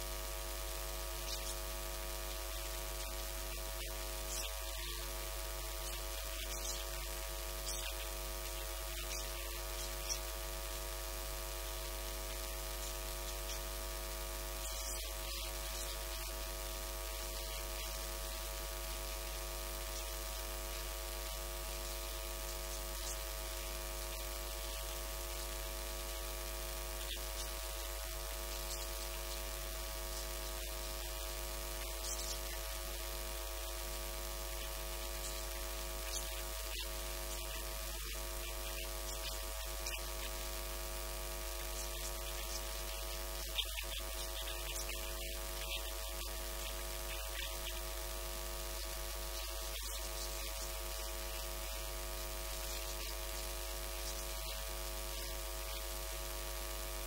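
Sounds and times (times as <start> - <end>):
electrical mains hum and buzz: 0.0 - 57.0
faint hiss: 0.0 - 57.0.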